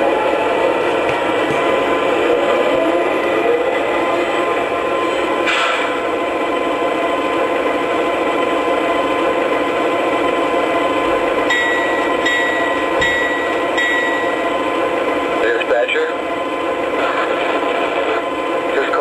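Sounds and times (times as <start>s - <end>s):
model locomotive diesel idle: 0.0s - 19.0s.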